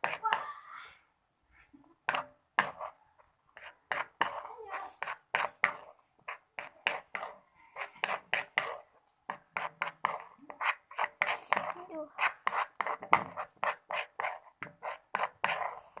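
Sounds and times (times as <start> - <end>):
slime being stirred: 0.0 - 0.5, 1.9 - 16.0.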